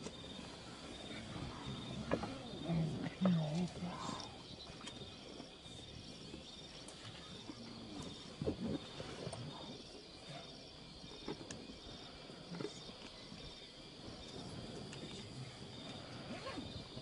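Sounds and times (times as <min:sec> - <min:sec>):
insects chirping in trills: 0:00.0 - 0:17.0.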